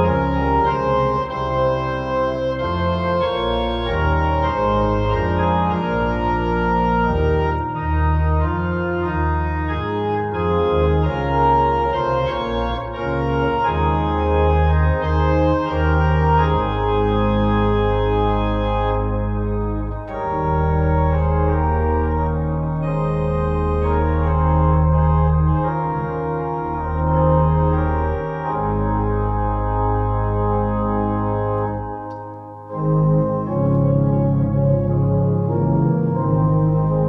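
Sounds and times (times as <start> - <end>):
church organ playing a hymn: 0.0 - 37.0.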